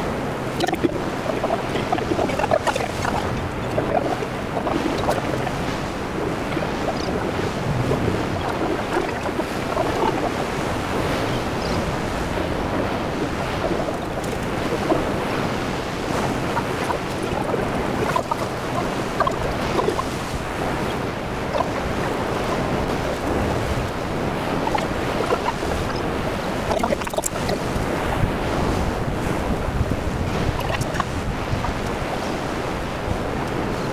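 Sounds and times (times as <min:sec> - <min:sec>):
waves washing up a beach: 0:00.0 - 0:33.9.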